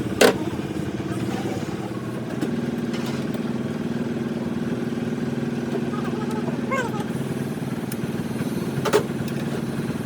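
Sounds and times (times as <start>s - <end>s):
motor pulsing hum: 0.0s - 10.0s.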